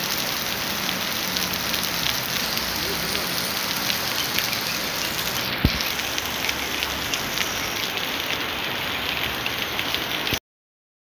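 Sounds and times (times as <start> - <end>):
heavy rain pouring on street: 0.0 - 10.4.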